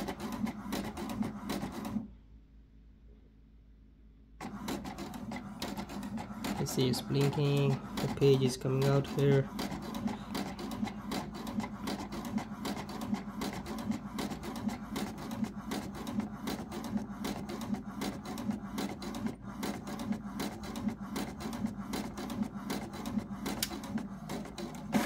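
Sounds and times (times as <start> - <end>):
inkjet printer printing: 0.0 - 2.1, 4.4 - 25.0.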